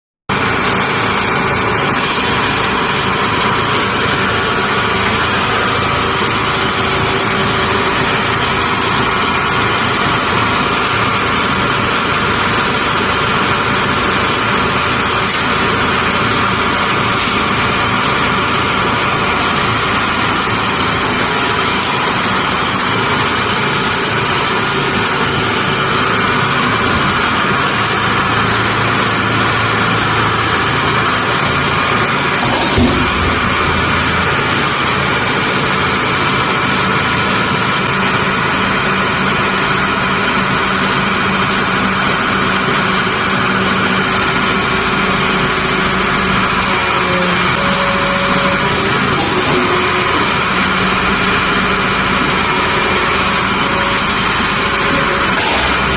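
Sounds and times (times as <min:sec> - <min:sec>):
hydraulic machine drone: 0:00.3 - 0:55.9.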